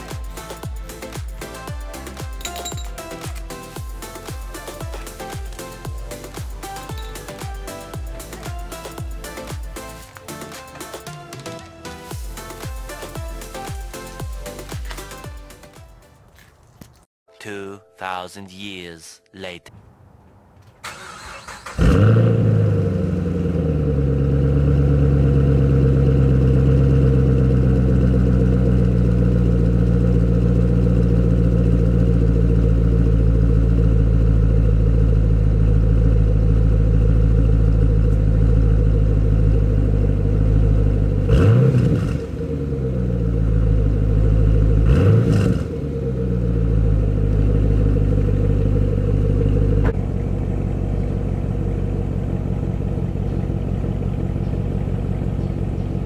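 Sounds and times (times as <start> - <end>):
car engine idling and revving: 0.0 - 11.2, 20.6 - 56.0.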